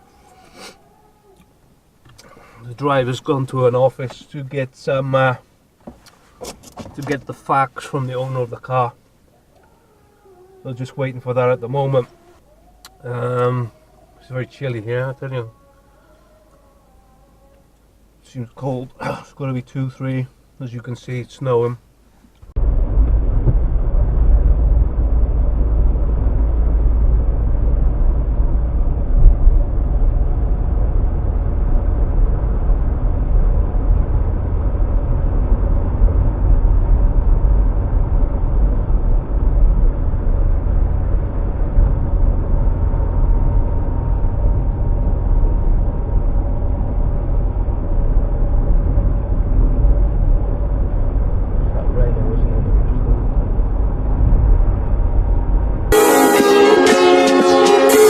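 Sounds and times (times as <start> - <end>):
car road and engine rumble: 0.0 - 15.9, 17.6 - 58.0.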